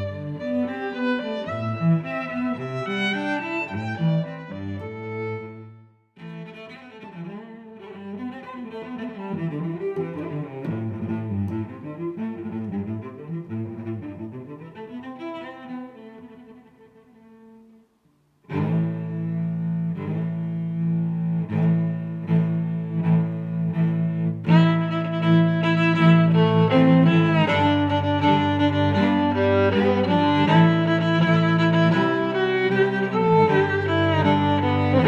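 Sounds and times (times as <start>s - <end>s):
low bowed strings music: 0.0s - 17.8s, 18.4s - 35.0s.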